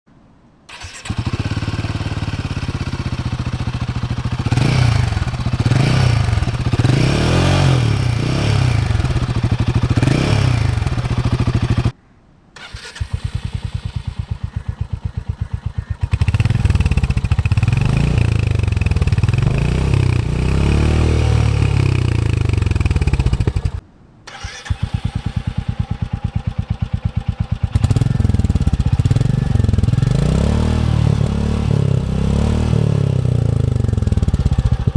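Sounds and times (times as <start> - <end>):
motorcycle engine idling and revving: 0.7 - 12.0, 12.6 - 34.9.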